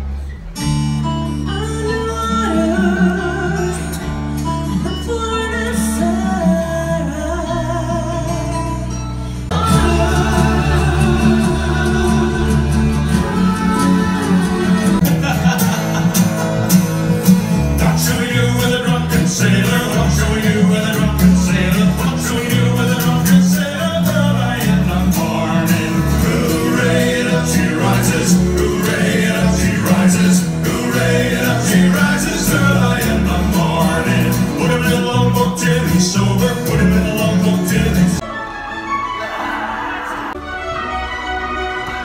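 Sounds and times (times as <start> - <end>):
stage music with heavy bass: 8.3 - 42.0.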